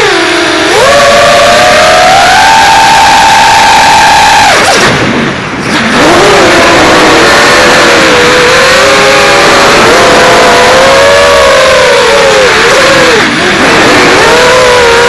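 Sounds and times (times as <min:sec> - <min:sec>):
quadcopter motors whining: 0:00.0 - 0:05.0, 0:05.7 - 0:15.0.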